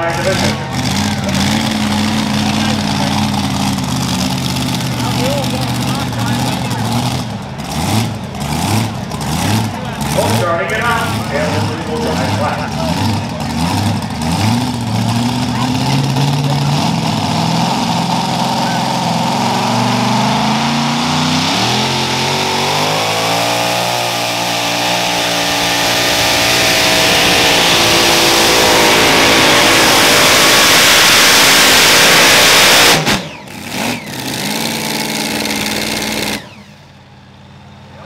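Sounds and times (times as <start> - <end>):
tractor engine revving: 0.0 - 38.0.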